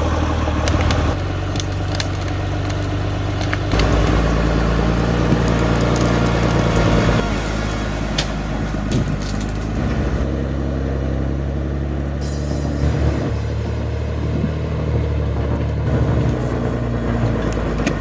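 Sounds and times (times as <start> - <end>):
heavy machine engine droning: 0.0 - 18.0.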